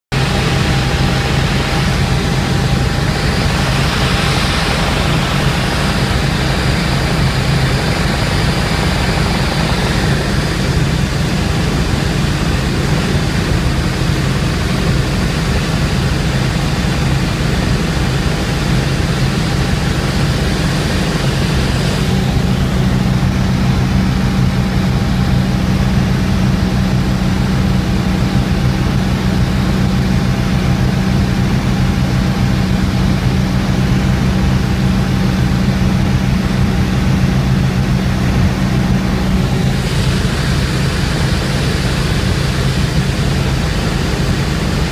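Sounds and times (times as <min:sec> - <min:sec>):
helicopter engine and rotor drone: 0:00.1 - 0:44.9
low hum: 0:00.1 - 0:44.9.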